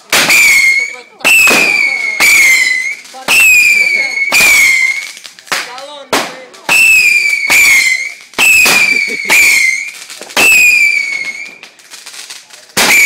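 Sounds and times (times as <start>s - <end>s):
whistling fireworks: 0.0s - 13.0s.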